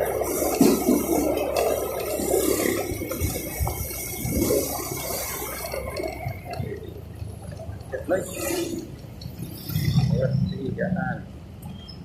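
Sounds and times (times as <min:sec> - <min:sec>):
rushing wind: 0:00.0 - 0:10.6
motorbike road noise: 0:00.0 - 0:12.0.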